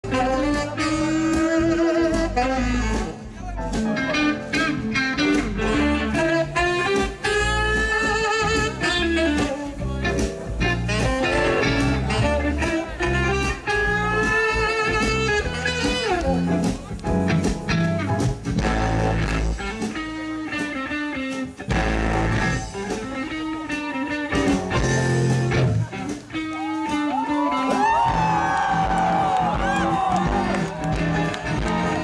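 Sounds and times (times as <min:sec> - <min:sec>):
bluesy song with guitar: 0:00.0 - 0:32.0.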